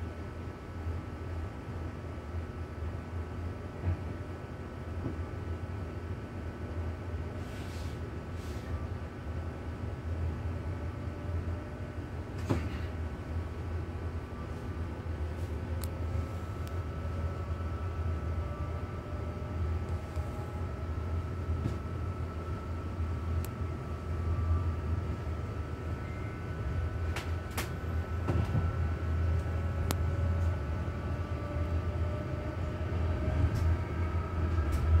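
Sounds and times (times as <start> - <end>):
train rumble inside carriage: 0.0 - 35.0.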